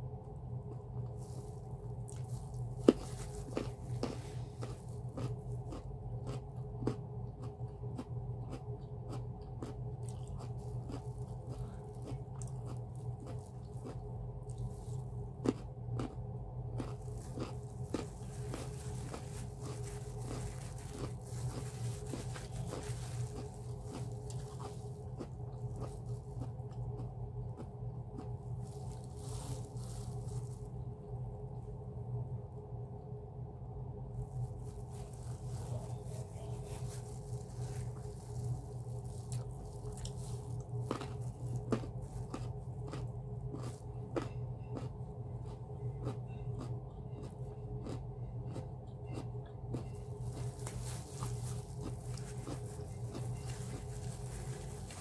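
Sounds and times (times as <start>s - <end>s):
steady low hum: 0.0s - 55.0s
crunchy carrot chewing: 0.6s - 31.2s, 34.2s - 55.0s.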